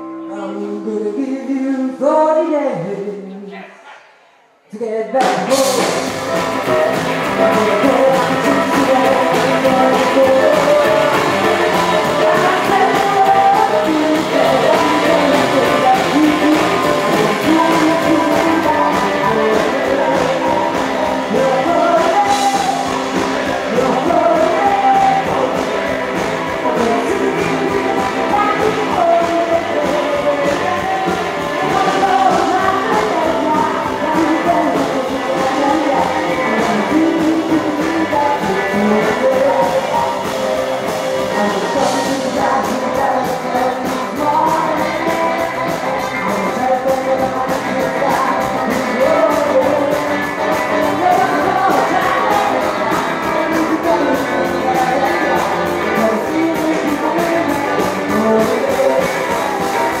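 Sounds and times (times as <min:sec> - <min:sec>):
live rockabilly band with singing: 0:00.0 - 0:03.5, 0:04.7 - 1:00.0.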